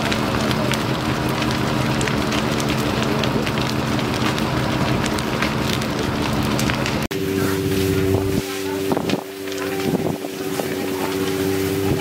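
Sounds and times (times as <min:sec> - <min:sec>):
engine hum: 0:00.0 - 0:12.0
fire crackling and popping: 0:00.0 - 0:12.0.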